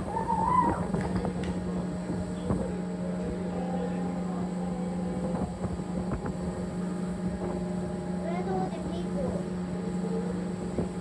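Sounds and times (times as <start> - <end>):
boat engine droning: 0.0 - 11.0
faint voices: 0.0 - 11.0.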